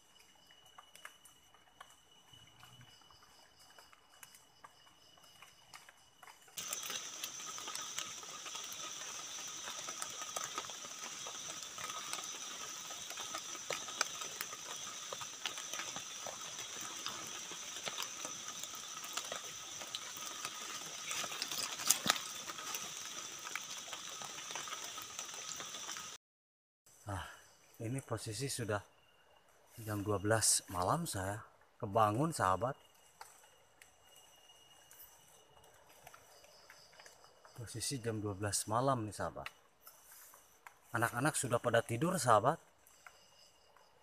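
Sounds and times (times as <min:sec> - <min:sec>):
night insects trilling: 0:00.0 - 0:26.2, 0:27.0 - 0:44.0.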